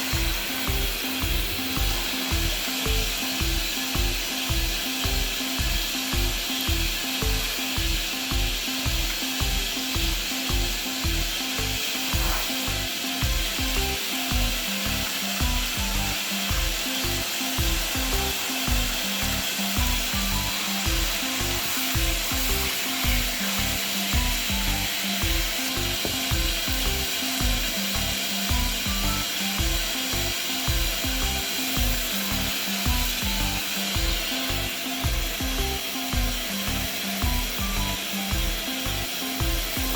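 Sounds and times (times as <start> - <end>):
music with plucked melody: 0.0 - 39.9
steady hiss: 0.0 - 39.9.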